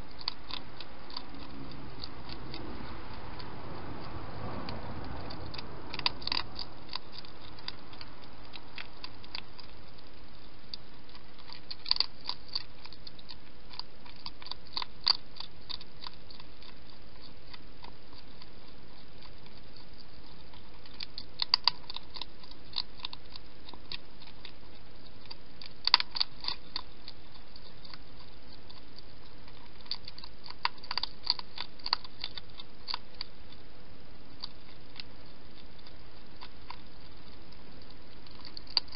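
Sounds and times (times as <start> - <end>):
hedgehog chewing crunching clicks: 0.0 - 38.9.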